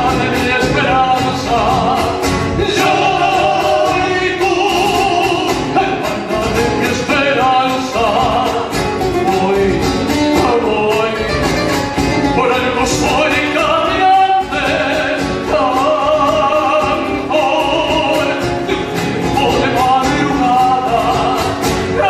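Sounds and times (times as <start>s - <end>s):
instrumental accompaniment: 0.0s - 22.0s
person singing folk song: 0.0s - 22.0s.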